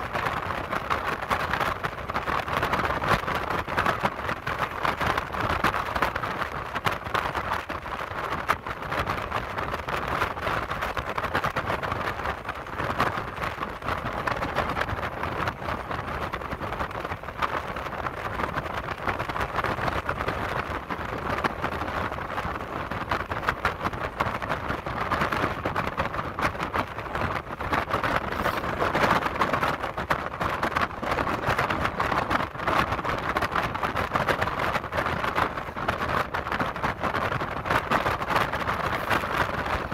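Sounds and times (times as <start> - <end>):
rushing wind: 0.0 - 39.9
tyre noise on highway: 0.0 - 39.9.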